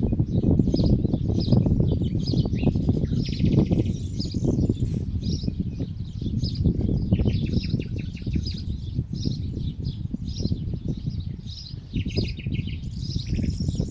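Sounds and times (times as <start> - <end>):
small birds chirping: 0.0 - 13.9
bird trill: 0.3 - 13.9.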